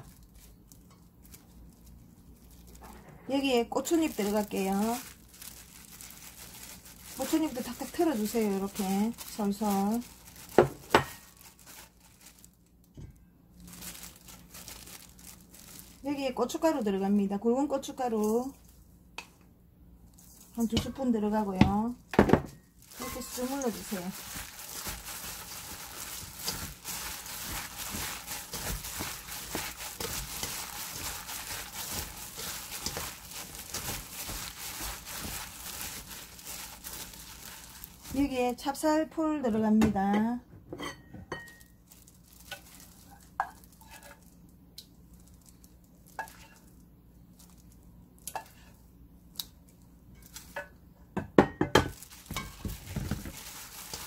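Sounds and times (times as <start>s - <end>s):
plastic glove crinkling: 0.0s - 19.1s, 20.0s - 39.5s, 41.4s - 50.7s, 51.8s - 54.0s.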